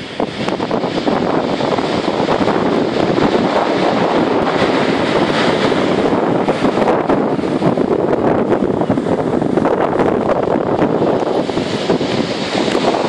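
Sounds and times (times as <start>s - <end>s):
waves breaking on shingle: 0.0s - 8.3s, 10.3s - 13.0s.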